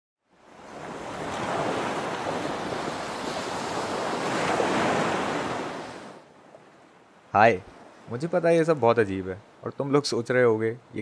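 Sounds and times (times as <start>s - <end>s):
wind: 0.2s - 11.0s
ocean waves: 0.3s - 11.0s.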